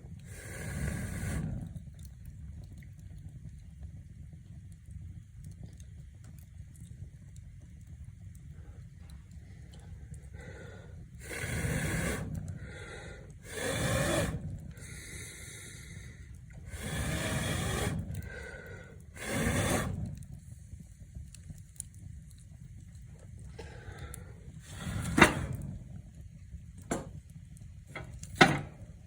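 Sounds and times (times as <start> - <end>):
wood fire rumbling and crackling: 0.0 - 29.0.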